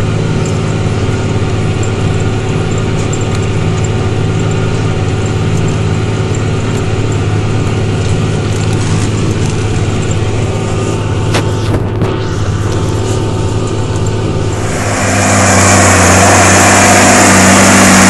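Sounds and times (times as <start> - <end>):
tractor engine under load: 0.0 - 18.0.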